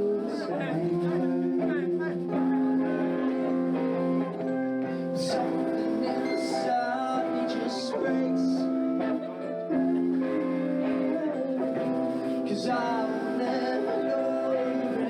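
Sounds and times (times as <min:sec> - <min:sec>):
person singing: 0:00.0 - 0:15.0
strummed guitar chords: 0:00.0 - 0:15.0.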